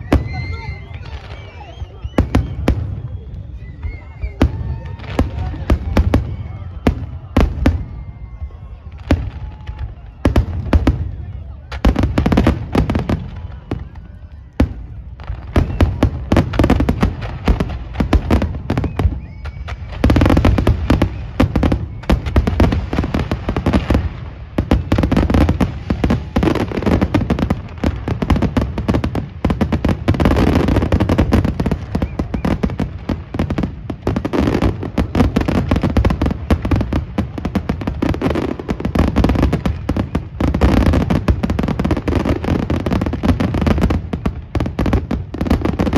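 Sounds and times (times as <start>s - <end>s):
fireworks bursts and crackling: 0.0s - 45.9s.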